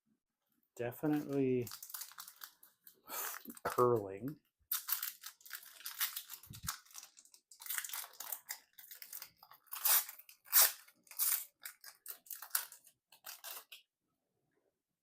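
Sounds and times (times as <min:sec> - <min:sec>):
foil wrapper crinkling: 0:01.0 - 0:04.0, 0:04.7 - 0:13.8.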